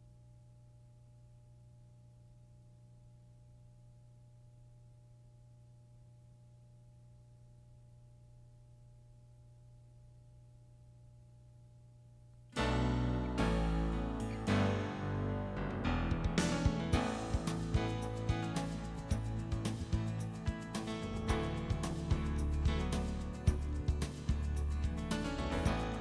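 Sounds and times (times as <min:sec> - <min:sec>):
faint low hum with hiss: 0:00.0 - 0:26.0.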